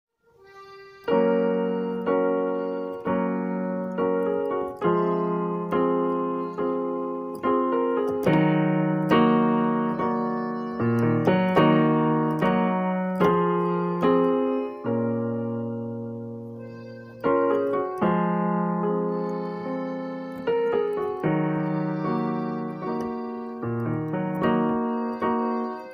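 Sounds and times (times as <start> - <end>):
piano chords: 0.4 - 25.9.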